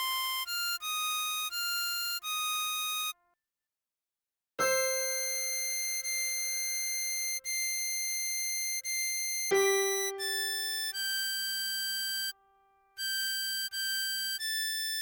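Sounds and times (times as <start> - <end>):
harmonica notes: 0.0 - 3.2, 4.6 - 12.4, 13.0 - 15.0.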